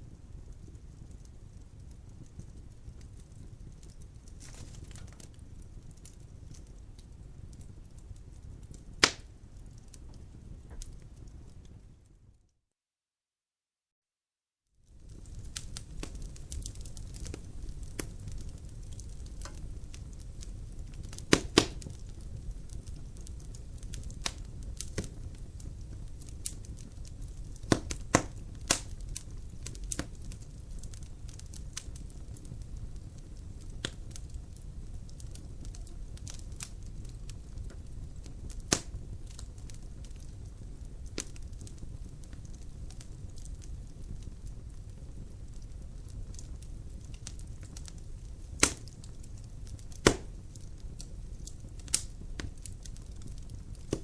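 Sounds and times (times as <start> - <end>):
wood fire crackling: 0.0 - 12.3, 14.8 - 54.0.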